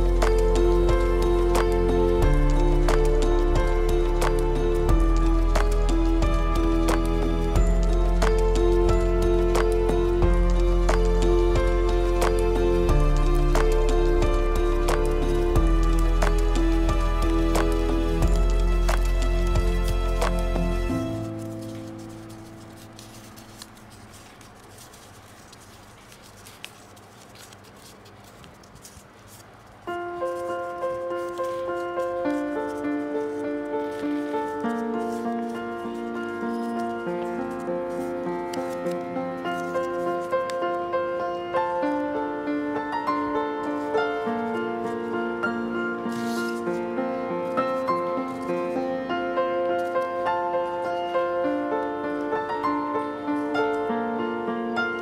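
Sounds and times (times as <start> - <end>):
paper rustling and crinkling: 0.0 - 42.0, 43.0 - 53.9
gentle instrumental music: 0.0 - 55.0.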